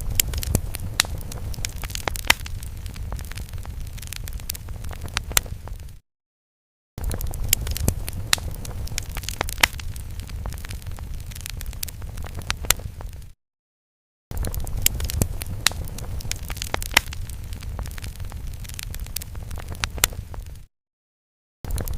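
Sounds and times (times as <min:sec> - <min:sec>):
fire crackling: 0:00.0 - 0:06.0, 0:07.0 - 0:13.4, 0:14.3 - 0:20.7, 0:21.7 - 0:21.9.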